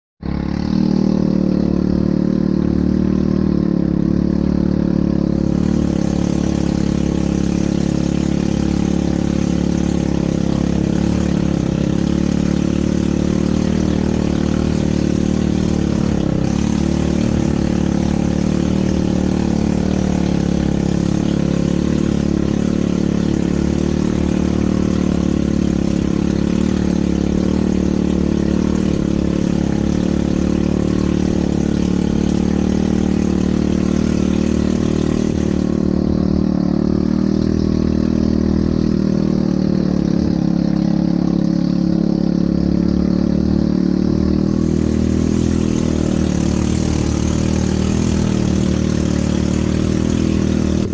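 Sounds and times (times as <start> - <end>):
atv engine running: 0.2 - 50.9.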